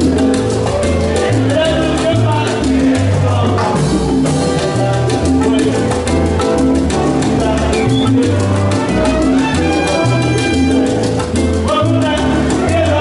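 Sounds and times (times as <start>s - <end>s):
bass line: 0.0s - 13.0s
hand drums and timbales: 0.0s - 13.0s.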